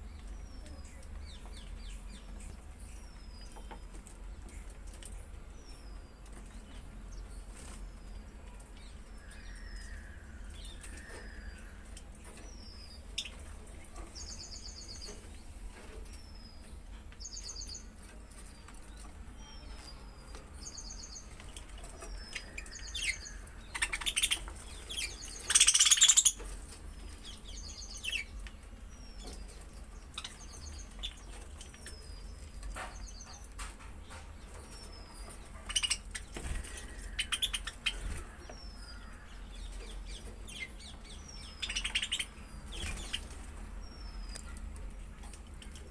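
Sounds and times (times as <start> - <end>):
budgies chirping: 9.0 - 45.9.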